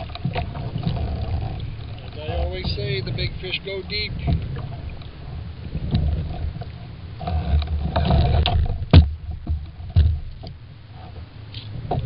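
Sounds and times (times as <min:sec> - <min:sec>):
wind buffeting microphone: 0:00.0 - 0:10.8
water lapping against kayak: 0:00.0 - 0:12.0.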